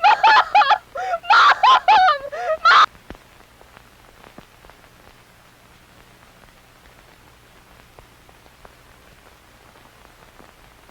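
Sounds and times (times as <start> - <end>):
faint steady hiss: 0.0 - 10.9
light crackles: 0.0 - 10.9.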